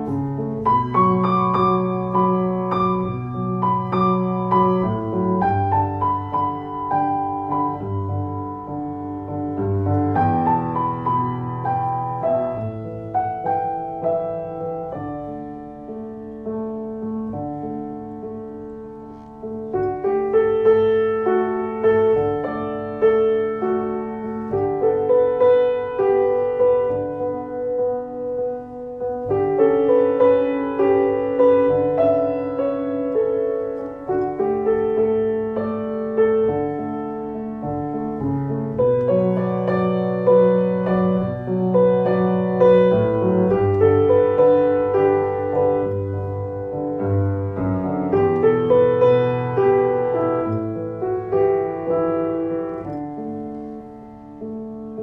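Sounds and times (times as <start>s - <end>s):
gentle piano music: 0.0s - 55.0s.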